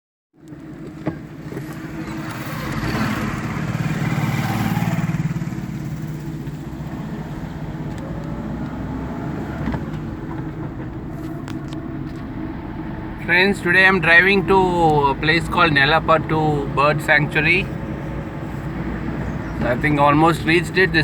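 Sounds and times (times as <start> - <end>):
car engine: 0.4 - 21.0
road noise: 0.4 - 21.0.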